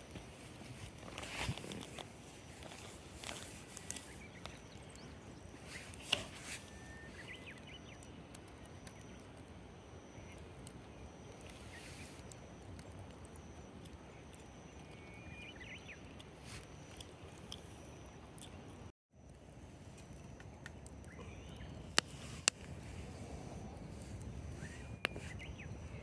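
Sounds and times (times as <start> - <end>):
campfire crackling: 0.0 - 26.0
pops and clicks of fire: 0.1 - 15.1, 19.3 - 25.7.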